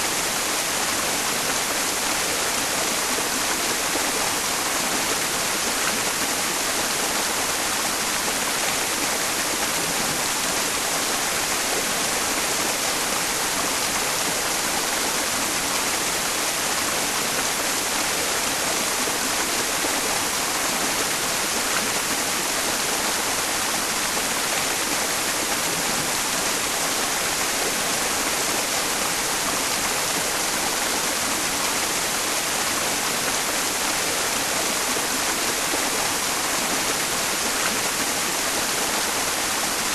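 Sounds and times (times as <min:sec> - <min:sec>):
mountain stream flowing: 0:00.0 - 0:39.9
steady white noise hiss: 0:00.0 - 0:39.9.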